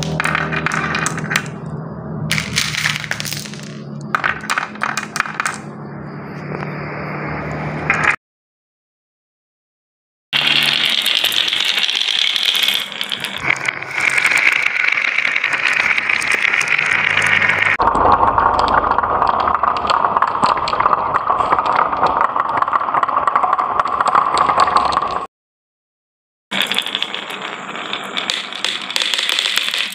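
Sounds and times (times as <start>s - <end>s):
glass marbles rolling on wood: 0.0s - 5.8s, 10.4s - 25.3s, 26.5s - 29.9s.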